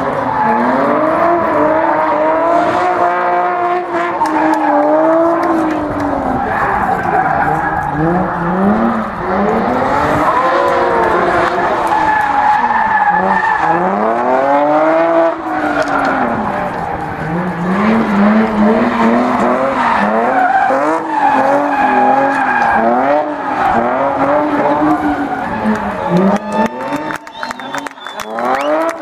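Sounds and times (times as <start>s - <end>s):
car engine revving hard: 0.0s - 29.0s
tyres skidding and squealing: 0.0s - 29.0s.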